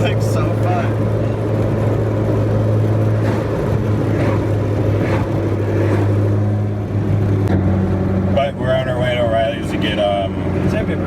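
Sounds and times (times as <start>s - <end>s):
car engine droning: 0.0s - 11.0s
road noise: 0.0s - 11.0s.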